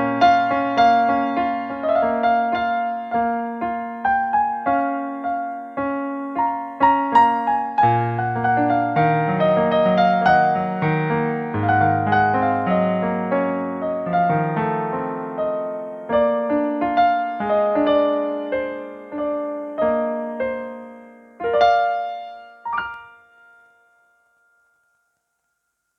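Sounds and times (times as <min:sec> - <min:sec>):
keyboard piano melody over chords: 0:00.0 - 0:24.6.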